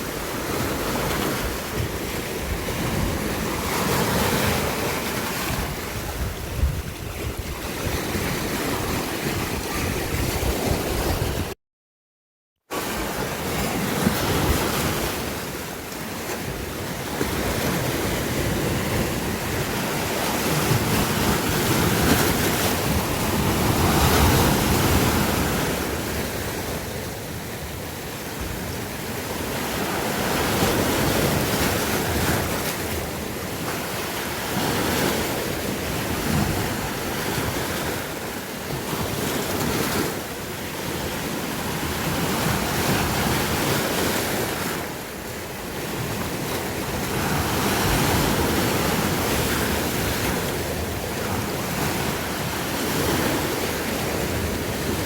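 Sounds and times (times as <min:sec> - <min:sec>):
sea waves breaking: 0:00.0 - 0:11.6, 0:12.7 - 0:55.0.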